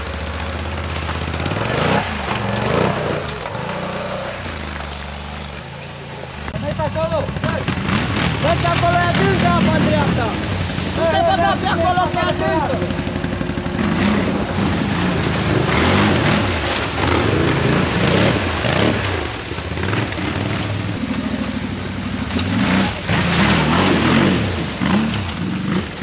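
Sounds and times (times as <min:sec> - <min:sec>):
atv engines revving: 0:00.0 - 0:26.0
water splashing: 0:00.0 - 0:26.0.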